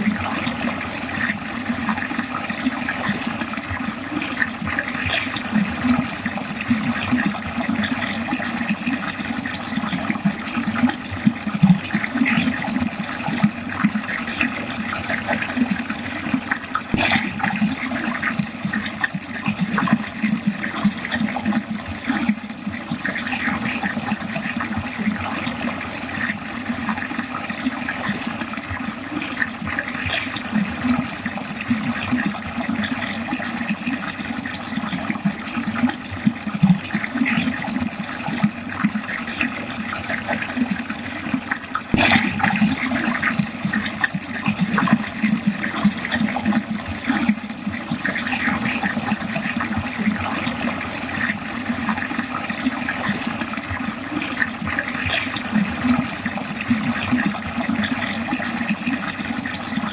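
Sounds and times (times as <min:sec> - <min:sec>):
water gurgling down a drain: 0:00.0 - 0:59.9.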